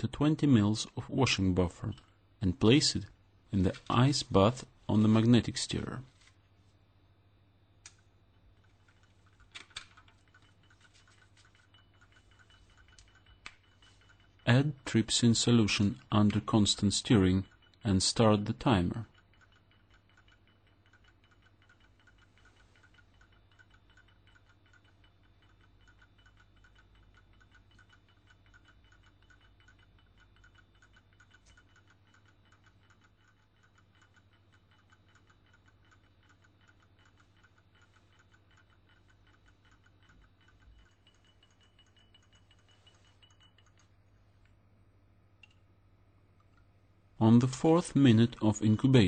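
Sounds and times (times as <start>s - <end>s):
faint clock ticking: 0.0s - 6.3s, 7.0s - 49.0s
low steady hum: 0.0s - 49.0s.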